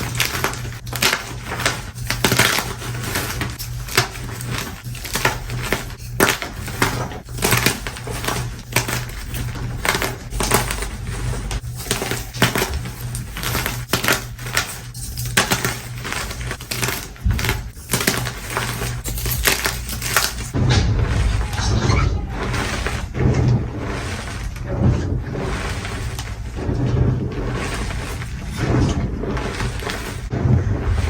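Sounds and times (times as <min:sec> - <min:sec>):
chalk blocks crunching: 0:00.0 - 0:21.6, 0:22.2 - 0:31.0
low steady hum: 0:00.0 - 0:31.0.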